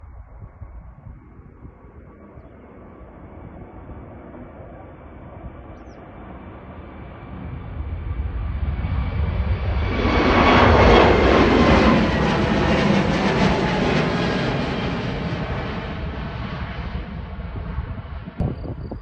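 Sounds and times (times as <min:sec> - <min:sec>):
jet airliner taking off: 0:00.0 - 0:19.0.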